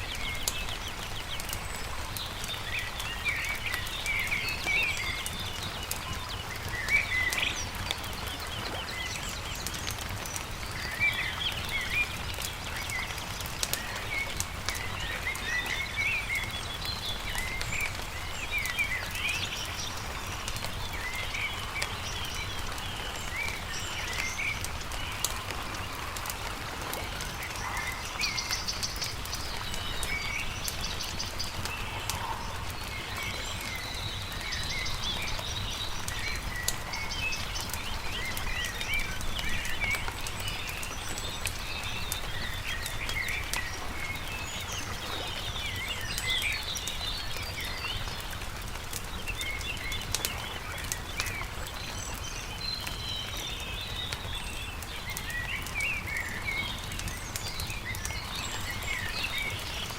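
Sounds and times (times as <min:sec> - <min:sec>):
campfire crackling: 0:00.0 - 0:59.9
small birds chirping: 0:00.0 - 0:59.9.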